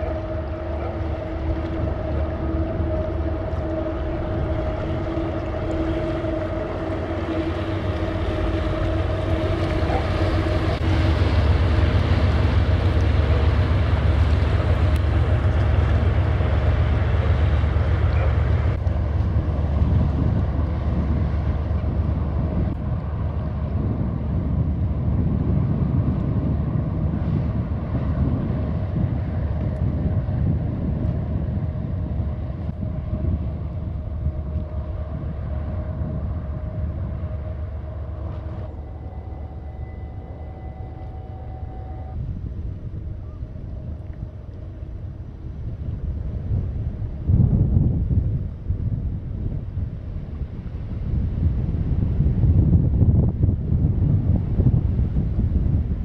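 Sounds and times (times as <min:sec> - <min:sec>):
humming tone: 0:00.0 - 0:56.0
ship engine low rumble: 0:00.0 - 0:56.0.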